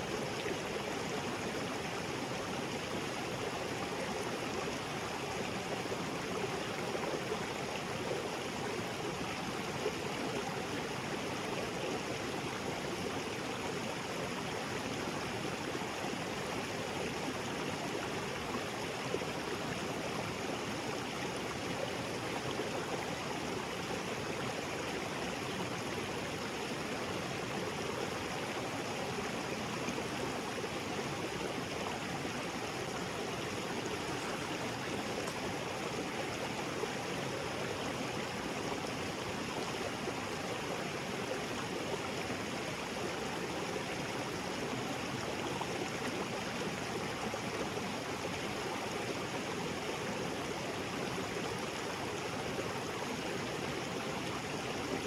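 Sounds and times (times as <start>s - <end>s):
water flowing over rocks: 0.0s - 55.0s.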